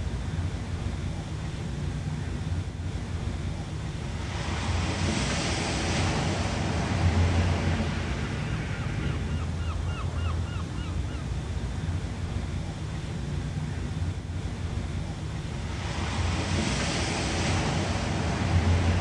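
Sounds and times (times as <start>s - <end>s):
low rumble of surf: 0.0s - 19.0s
ocean waves washing in: 0.0s - 19.0s.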